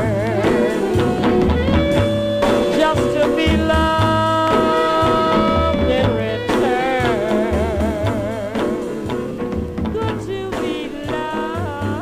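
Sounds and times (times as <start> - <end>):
jazz instrumental music: 0.0 - 12.0
low bass notes: 0.0 - 12.0
vibrato melody line: 0.0 - 12.0.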